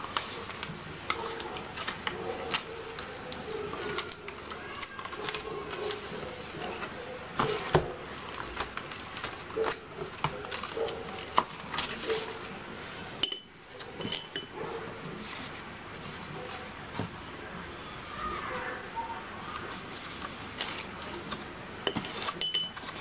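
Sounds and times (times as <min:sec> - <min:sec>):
paper rustling and crinkling: 0:00.0 - 0:12.6, 0:14.7 - 0:23.0.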